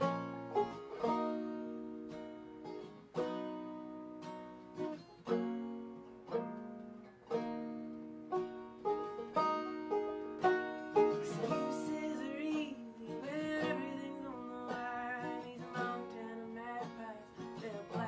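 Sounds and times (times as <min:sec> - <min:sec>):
acoustic guitar: 0:00.0 - 0:18.0
banjo: 0:00.0 - 0:18.0.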